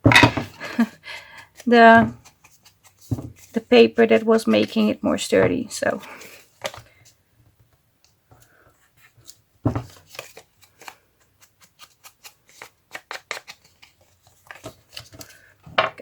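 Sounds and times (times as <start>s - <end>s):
paper rustling: 0.3s - 4.9s, 6.0s - 7.2s, 8.4s - 15.5s.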